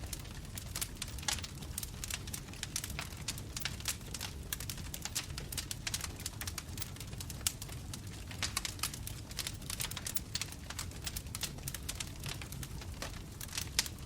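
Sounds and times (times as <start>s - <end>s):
bonfire crackling and popping: 0.0s - 14.0s
low rumble of flames: 0.0s - 14.0s.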